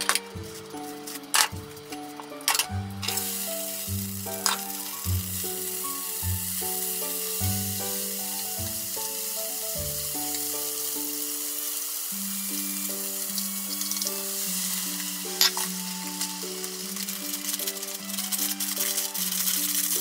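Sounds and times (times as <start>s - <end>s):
oil sizzling in a frying pan: 0.0s - 20.0s.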